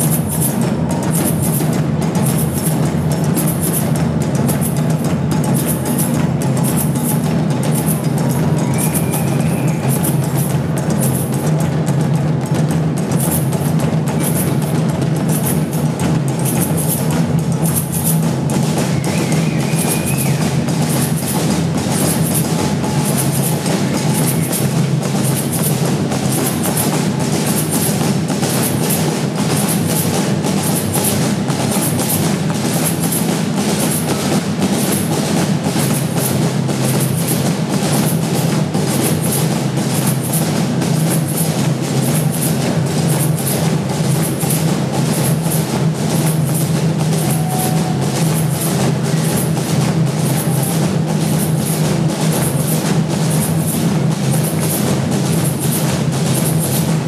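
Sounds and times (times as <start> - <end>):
hand drums playing rhythm: 0.0 - 57.0.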